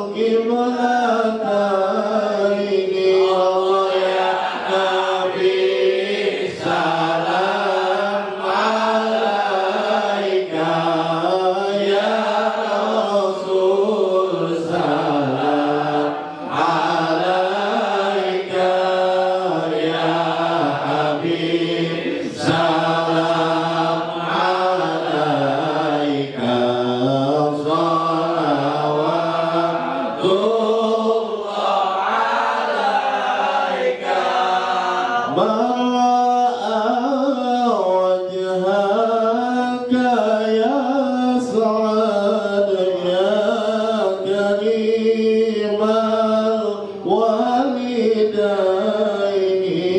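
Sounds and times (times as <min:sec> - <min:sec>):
man singing into a microphone: 0:00.0 - 0:05.5, 0:06.4 - 0:31.3, 0:35.2 - 0:49.9.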